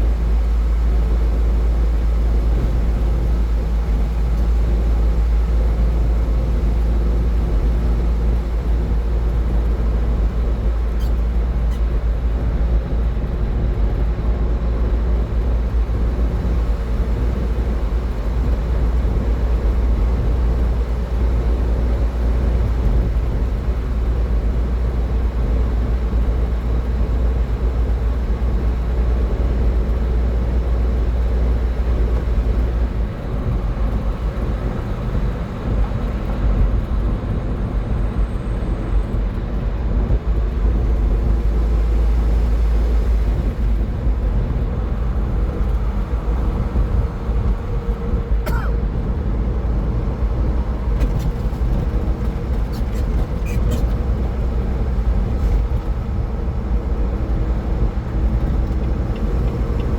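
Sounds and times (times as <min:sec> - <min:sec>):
low engine rumble: 0:00.0 - 0:59.9
road and tyre noise: 0:00.0 - 0:59.9.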